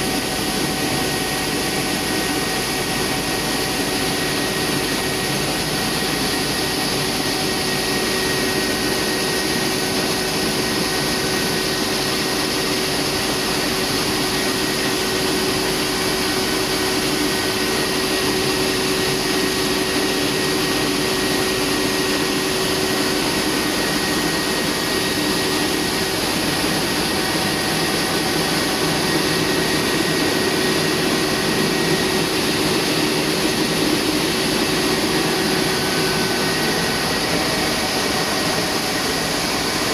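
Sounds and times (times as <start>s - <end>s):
steady whining tones: 0.3s - 39.9s.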